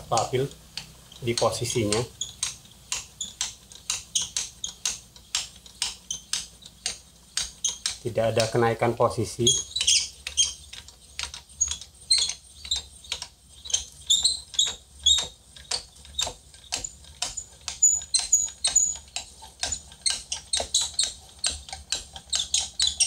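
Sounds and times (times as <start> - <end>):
metal table clicking: 0.0 - 8.6, 9.4 - 23.0
short high squeaks: 1.1 - 3.5, 4.1 - 5.0, 6.0 - 6.4, 7.5 - 8.6, 9.2 - 23.0.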